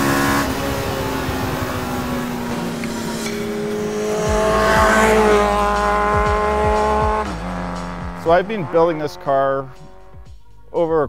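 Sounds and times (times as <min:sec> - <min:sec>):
car engine passing at high revs: 0:00.0 - 0:10.3.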